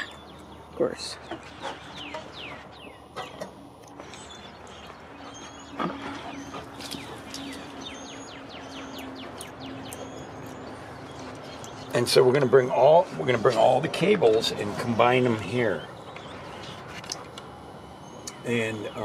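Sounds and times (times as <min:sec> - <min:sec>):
birds singing: 0:00.0 - 0:19.0
low hum: 0:00.0 - 0:19.0.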